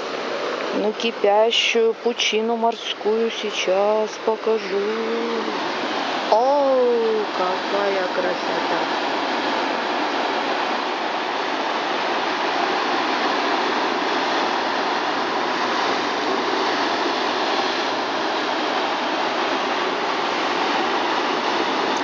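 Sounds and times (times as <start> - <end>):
surf churning over boulders: 0.0 - 22.0.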